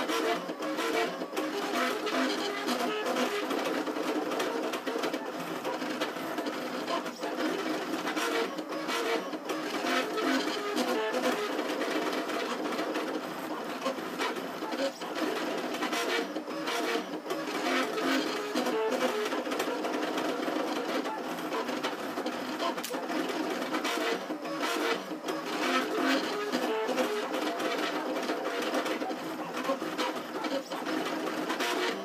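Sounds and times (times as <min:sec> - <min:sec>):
printer stepper motors whining: 0:00.0 - 0:32.0.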